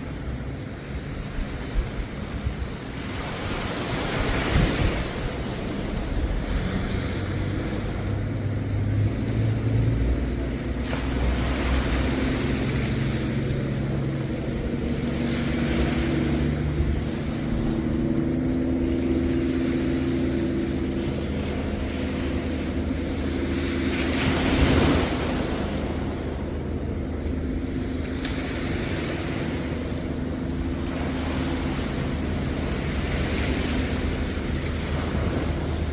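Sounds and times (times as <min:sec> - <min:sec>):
engine hum: 0:00.0 - 0:35.9
waves washing onto beach: 0:00.0 - 0:35.9.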